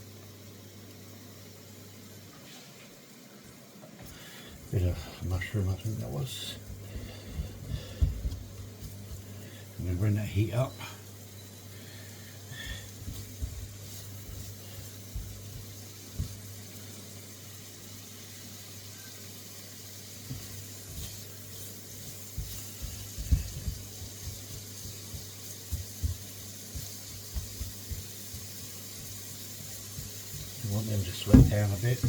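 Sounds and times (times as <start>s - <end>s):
vegetables sizzling in a wok: 4.1s - 32.0s.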